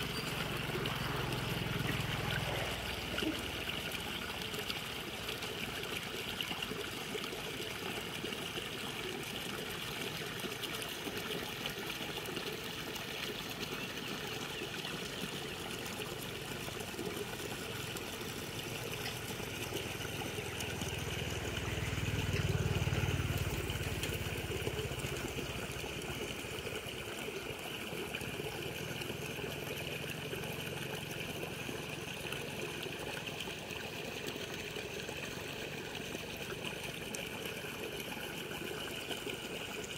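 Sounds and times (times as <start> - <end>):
muddy water trickling and splashing: 0.0 - 39.9.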